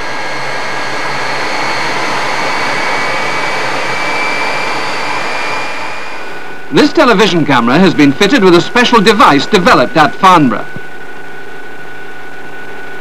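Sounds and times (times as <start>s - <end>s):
jet engine rush and whine: 0.0s - 13.0s.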